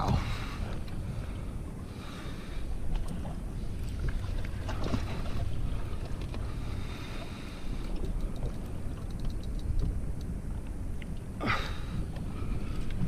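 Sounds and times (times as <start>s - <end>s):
water moving around boat: 0.0s - 13.0s
wind rumbling on microphone: 0.0s - 13.0s.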